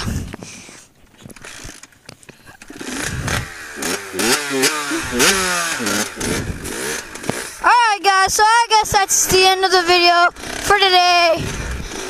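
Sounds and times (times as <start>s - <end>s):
pit bike engine revving: 1.4s - 12.0s.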